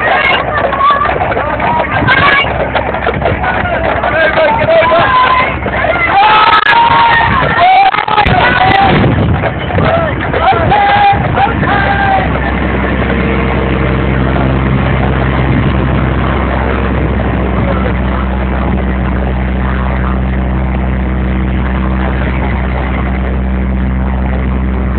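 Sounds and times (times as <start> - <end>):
heavy engine running steadily: 0.0 - 24.9.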